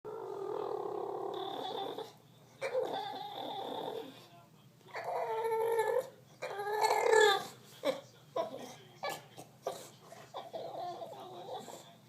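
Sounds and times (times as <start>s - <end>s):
dog whining: 0.1s - 4.2s, 4.9s - 11.9s.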